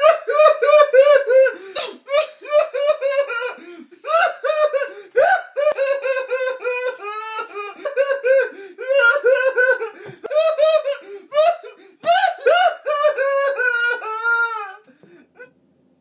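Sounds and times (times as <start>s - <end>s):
man mock sobbing: 0.0s - 15.5s.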